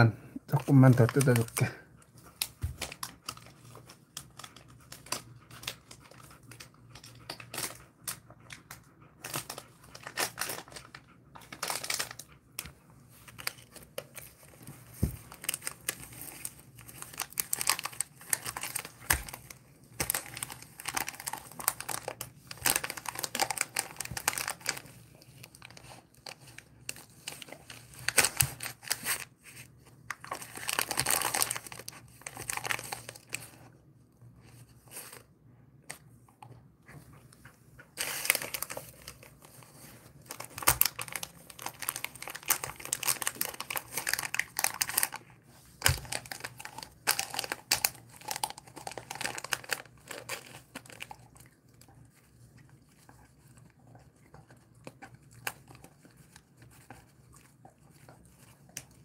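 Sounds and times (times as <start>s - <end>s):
plastic wrapper crinkling: 0.4s - 33.7s, 37.9s - 59.0s.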